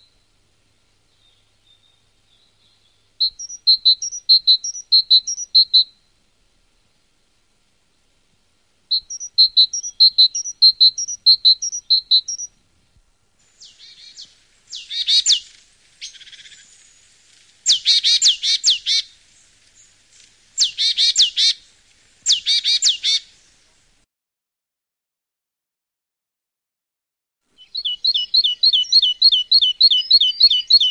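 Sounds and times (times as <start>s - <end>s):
songbirds singing: 1.0s - 8.2s, 8.9s - 23.8s, 27.5s - 30.9s.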